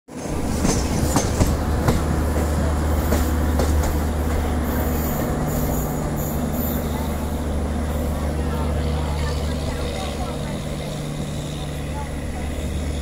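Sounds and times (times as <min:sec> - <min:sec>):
train wheels rumbling on rails: 0:00.1 - 0:13.0.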